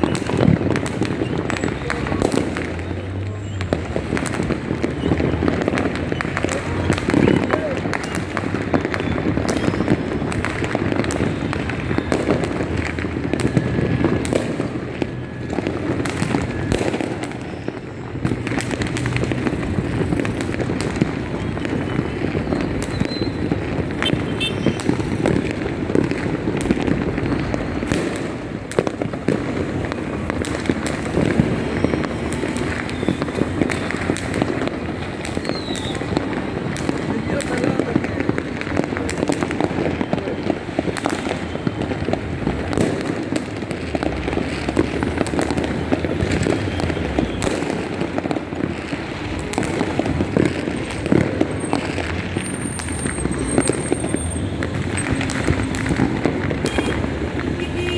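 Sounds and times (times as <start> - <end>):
fireworks and firecrackers bangs: 0.0 - 57.9.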